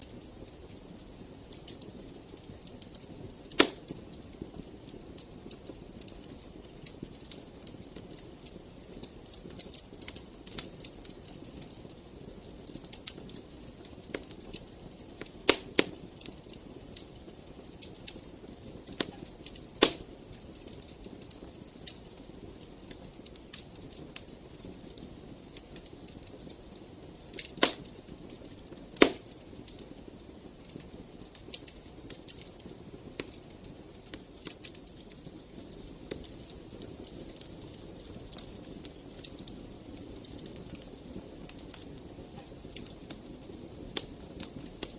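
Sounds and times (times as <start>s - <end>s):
fire popping: 0.0s - 44.9s
wood fire crackling: 0.0s - 44.9s.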